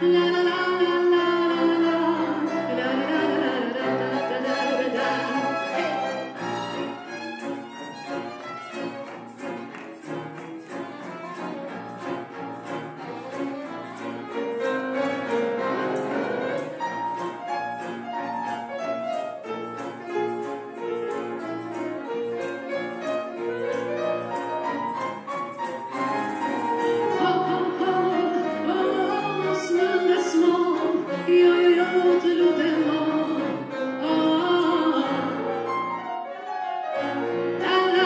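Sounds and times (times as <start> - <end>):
bowed strings melody: 0.0 - 38.0
piano accompaniment: 0.0 - 38.0.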